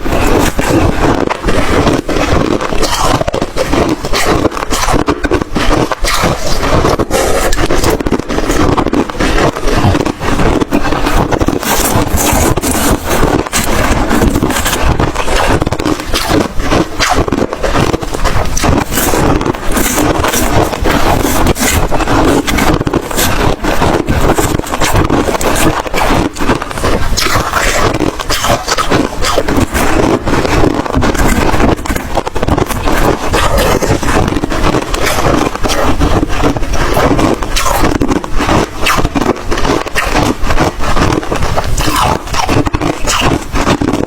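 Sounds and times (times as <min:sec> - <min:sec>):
ice being chewed and crunched: 0:00.0 - 0:44.0.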